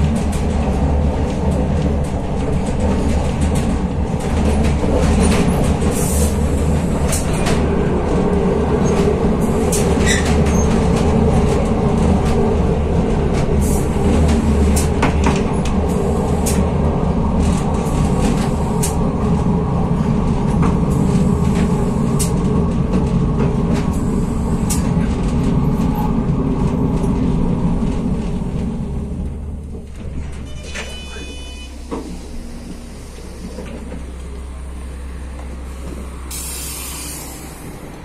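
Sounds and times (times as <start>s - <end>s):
train running gear rumble: 0.0s - 38.0s.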